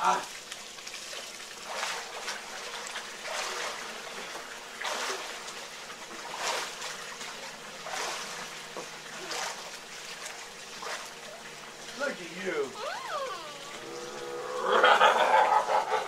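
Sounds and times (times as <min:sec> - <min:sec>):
trickle of small waterfall: 0:00.0 - 0:14.7
water splashing in pool: 0:00.0 - 0:16.0.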